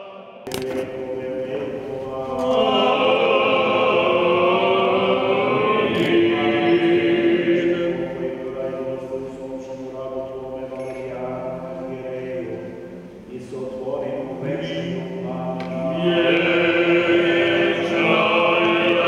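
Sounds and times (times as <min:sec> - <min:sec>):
men chanting a hymn: 0:00.0 - 0:19.0.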